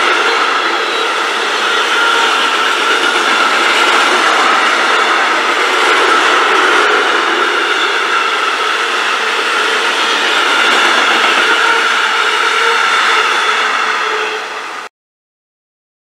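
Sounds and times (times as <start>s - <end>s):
freight train wheels on rail: 0.0s - 14.9s
high whine from train wheels: 0.0s - 14.9s.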